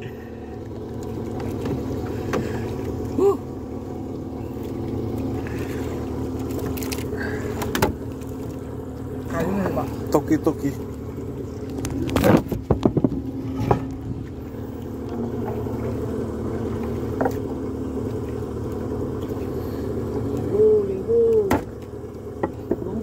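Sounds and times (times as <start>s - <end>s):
steady engine hum: 0.0s - 23.0s.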